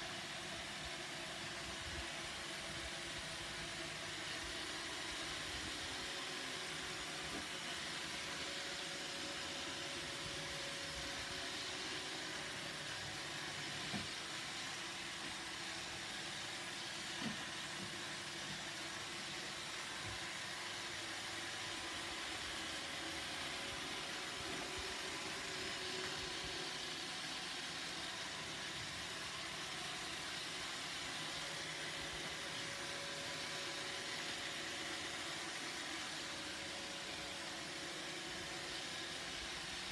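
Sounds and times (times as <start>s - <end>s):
robot vacuum whirring: 3.0s - 39.9s.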